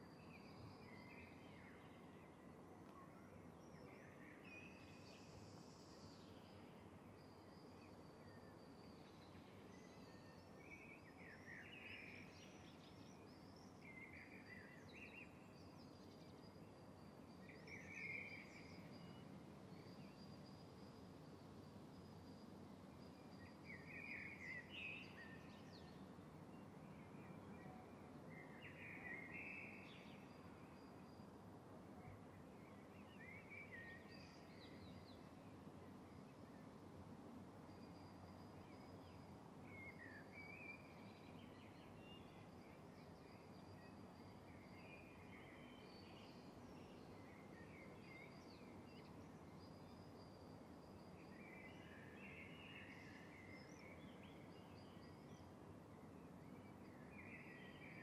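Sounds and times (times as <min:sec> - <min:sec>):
low steady background noise: 0:00.0 - 0:58.0.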